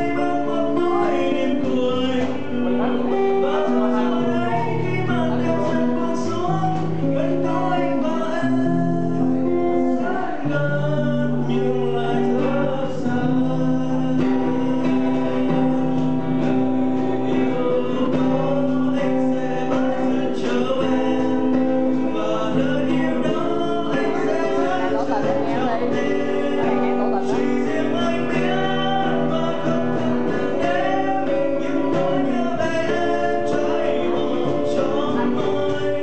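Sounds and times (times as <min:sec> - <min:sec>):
acoustic guitar strumming: 0:00.0 - 0:36.0
man singing: 0:00.0 - 0:36.0.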